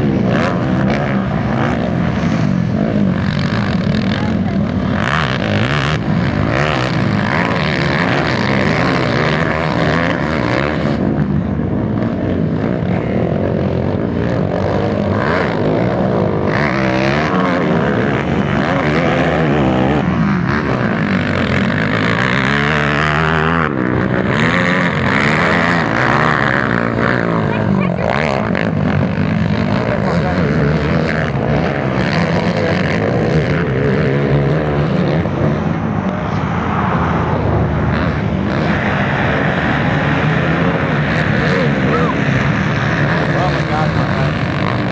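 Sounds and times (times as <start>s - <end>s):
quad engines revving: 0.0s - 44.9s.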